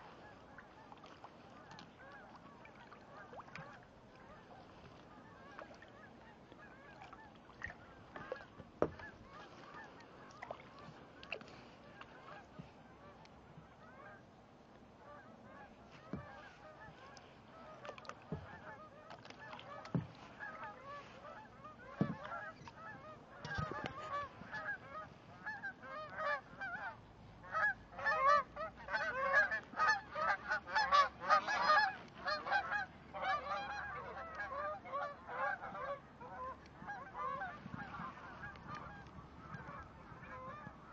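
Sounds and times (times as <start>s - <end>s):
geese honking: 0.0s - 14.2s, 15.0s - 40.9s.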